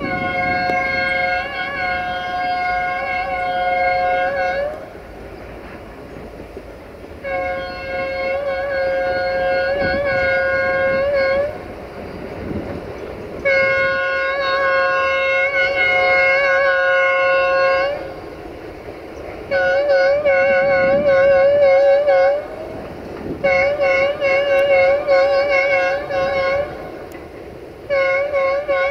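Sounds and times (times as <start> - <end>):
locomotive horn blasts: 0.0 - 5.2, 7.2 - 18.6, 19.4 - 28.9.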